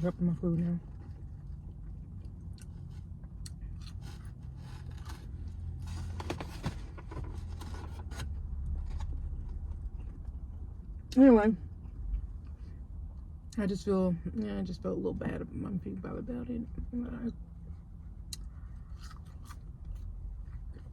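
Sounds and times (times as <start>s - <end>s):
low hum inside car: 0.0s - 20.9s.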